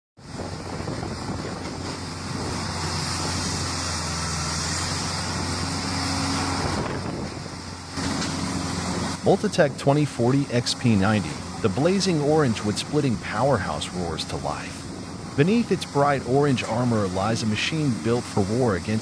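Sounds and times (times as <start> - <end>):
heavy machinery engine running: 0.2 - 19.0.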